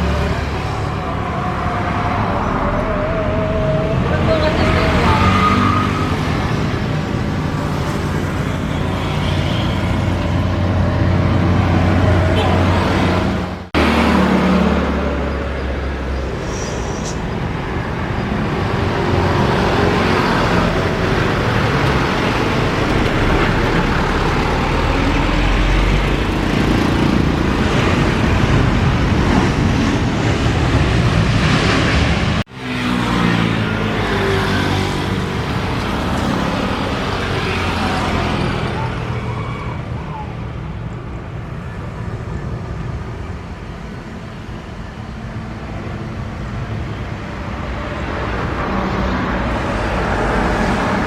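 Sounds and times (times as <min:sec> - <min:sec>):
engines roaring: 0:00.0 - 0:51.0.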